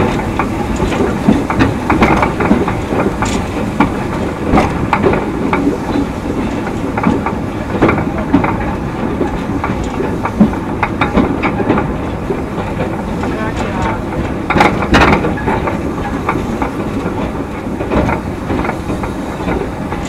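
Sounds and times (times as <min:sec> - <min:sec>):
train rumbling along track: 0:00.0 - 0:20.0
wheels clicking over rail joints: 0:00.0 - 0:20.0.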